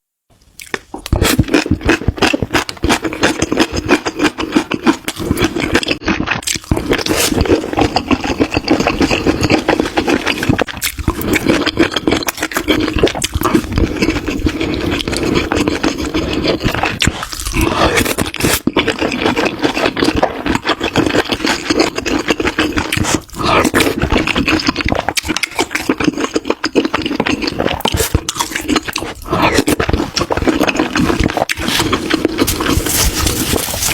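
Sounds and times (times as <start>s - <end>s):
crunchy chewing: 0.6s - 33.9s.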